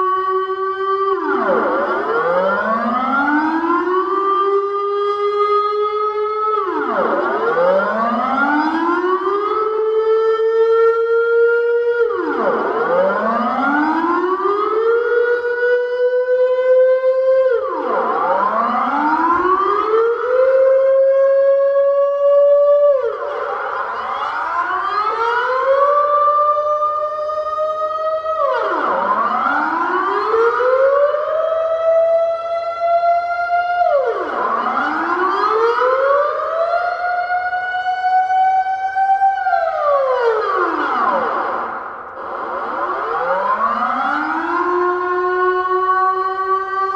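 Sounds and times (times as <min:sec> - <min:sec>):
air-raid siren wailing: 0:00.0 - 0:46.9.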